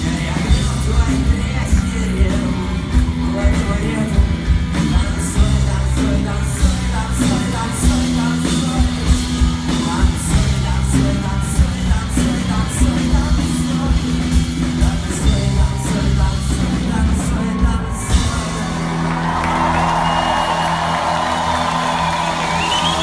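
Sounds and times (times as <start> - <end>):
person singing: 0.0 - 19.2
bass: 0.0 - 23.0
drums and cymbals: 0.0 - 23.0.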